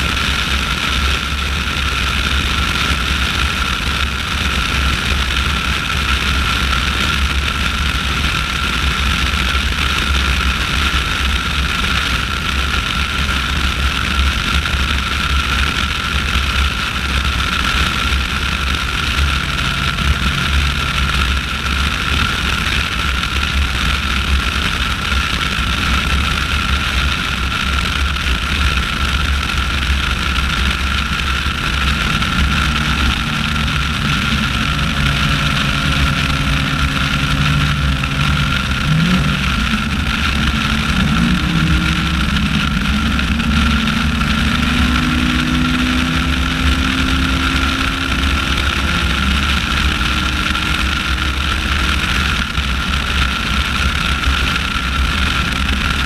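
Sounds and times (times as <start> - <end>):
low vehicle rumble with whine: 0.0 - 56.0
motorcycle engine idling and revving: 0.0 - 56.0.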